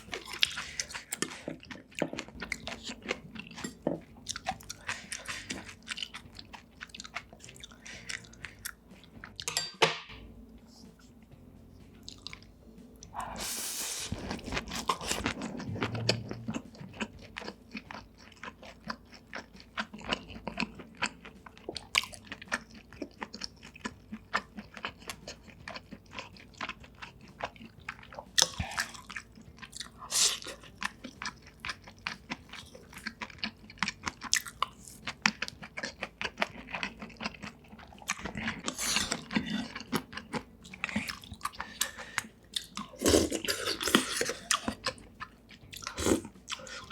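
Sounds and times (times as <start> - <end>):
food crunching: 0.0 - 9.5, 14.0 - 46.9
person chewing and biting food: 0.0 - 9.5, 12.0 - 46.9.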